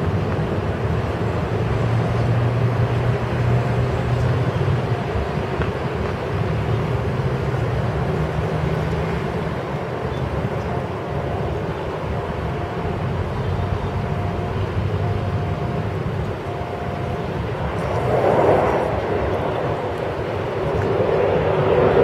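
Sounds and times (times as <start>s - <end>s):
distant turboprop engines droning: 0.0s - 22.0s.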